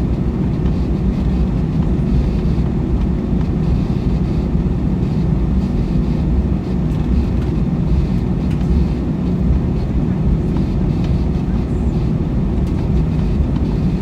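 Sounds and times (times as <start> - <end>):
jet engines idling: 0.0 - 14.0.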